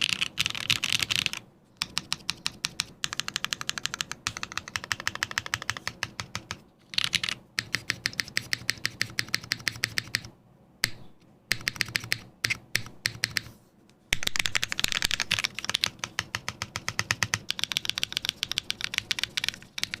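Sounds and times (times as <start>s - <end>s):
mechanical keyboard typing: 0.0s - 13.5s, 14.1s - 20.0s.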